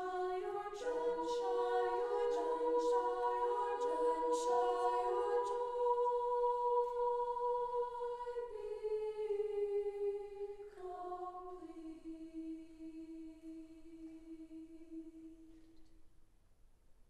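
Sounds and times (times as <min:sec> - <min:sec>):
choir singing a cappella: 0:00.0 - 0:15.6.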